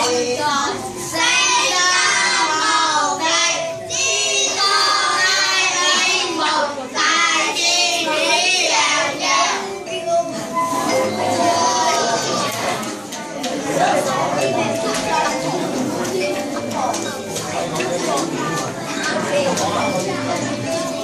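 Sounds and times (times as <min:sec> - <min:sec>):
children singing together: 0:00.0 - 0:17.1.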